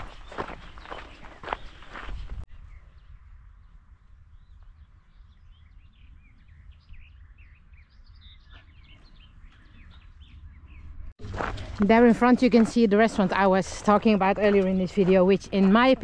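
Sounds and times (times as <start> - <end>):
birds chirping and whistling: 0.0 - 3.2, 4.4 - 16.0.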